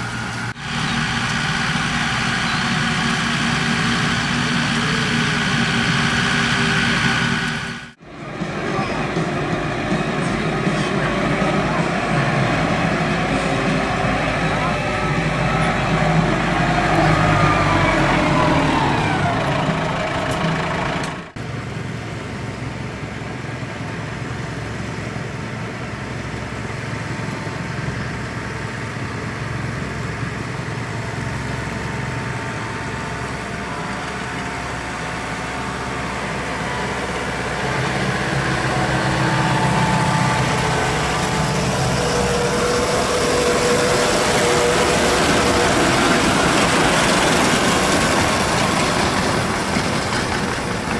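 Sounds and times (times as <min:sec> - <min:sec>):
tractor engines running: 0:00.0 - 0:50.9.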